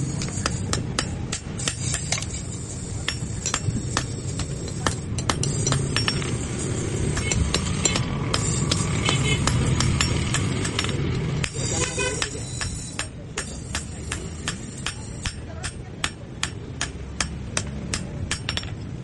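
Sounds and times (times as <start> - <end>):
hammer striking metal on anvil: 0.0 - 18.8
steady low rumble: 0.0 - 19.0.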